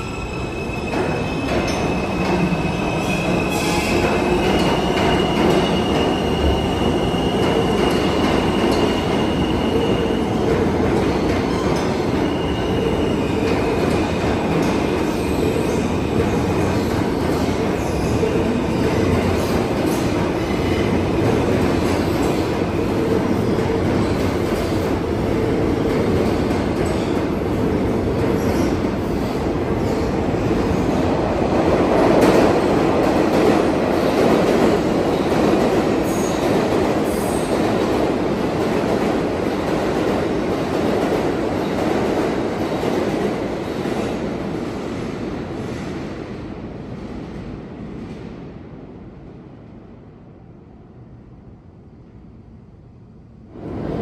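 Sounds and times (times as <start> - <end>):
subway train rumbling past: 0.0 - 54.0.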